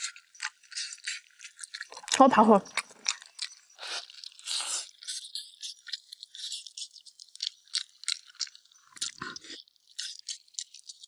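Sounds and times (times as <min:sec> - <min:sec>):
gnawing and chewing: 0:00.0 - 0:11.0.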